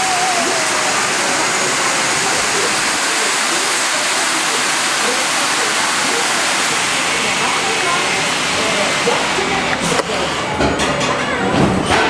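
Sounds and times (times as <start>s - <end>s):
loud rushing hiss: 0.0s - 10.5s.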